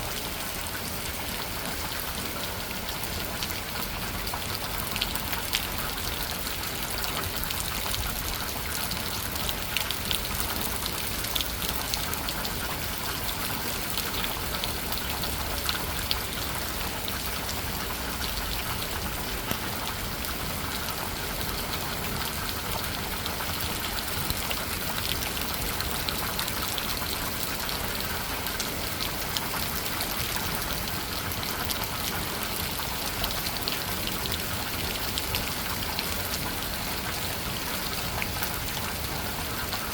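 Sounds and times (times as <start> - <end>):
raindrops ticking on a surface: 0.0 - 39.9
steady rain pouring: 0.0 - 39.9.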